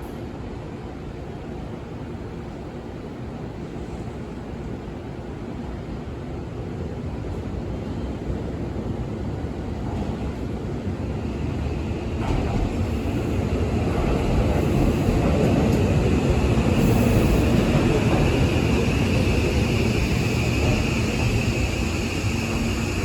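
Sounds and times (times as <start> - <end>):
train rail and motor rumble: 0.0 - 23.0.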